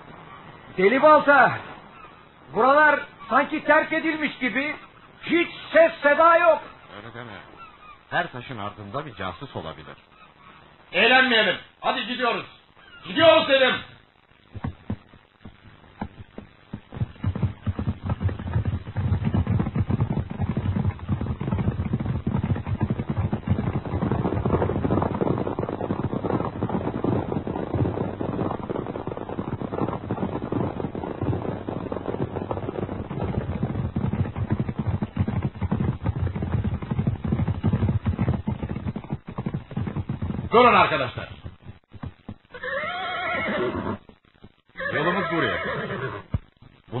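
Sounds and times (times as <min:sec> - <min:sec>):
horses galloping: 0:00.0 - 0:47.0.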